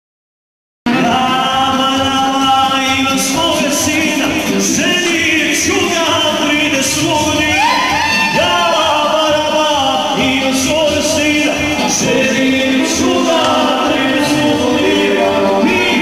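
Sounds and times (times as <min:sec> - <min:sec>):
band playing folk dance music: 0:00.9 - 0:16.0
person singing: 0:00.9 - 0:16.0.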